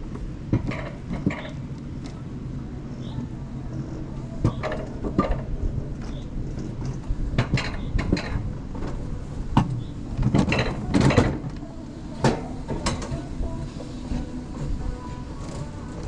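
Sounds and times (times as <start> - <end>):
sled wheels rumbling on track: 0.0 - 16.0.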